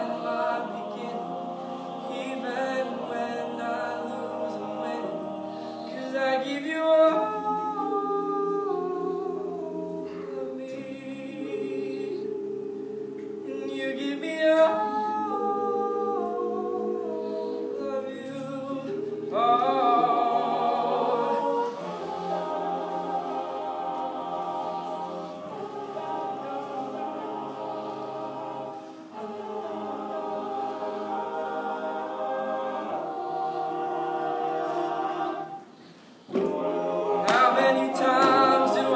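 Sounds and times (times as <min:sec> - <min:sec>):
male a cappella group singing: 0:00.0 - 0:38.9.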